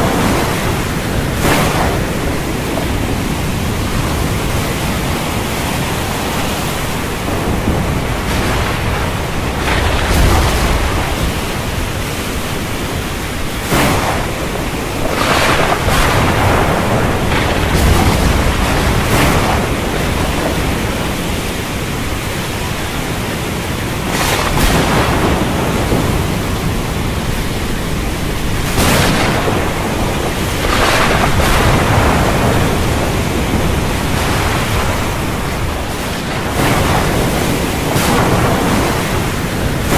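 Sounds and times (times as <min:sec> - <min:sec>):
low thunder rumbles: 0:00.0 - 0:39.9
rain and wind rushing: 0:00.0 - 0:39.9.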